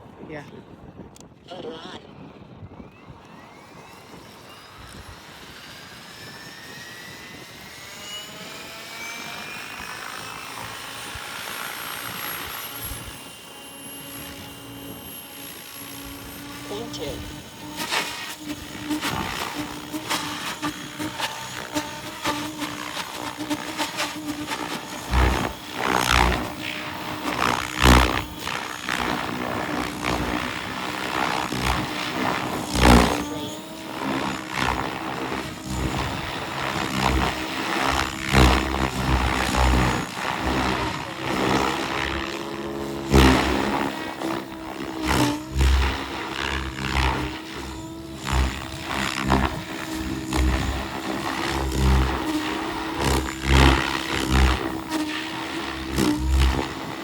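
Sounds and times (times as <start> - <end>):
rc helicopter motor and rotors humming: 0.2 - 57.0.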